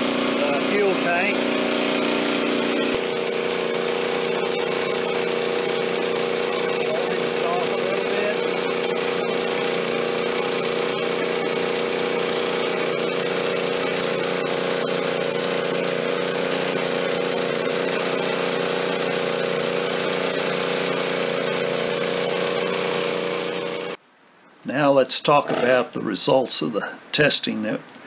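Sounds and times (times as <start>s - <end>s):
generator engine running: 0.0s - 24.0s, 25.4s - 25.8s.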